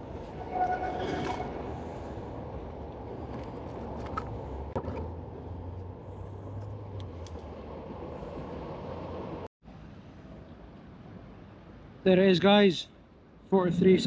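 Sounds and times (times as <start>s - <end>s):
traffic rumble overhead: 0.0s - 14.0s.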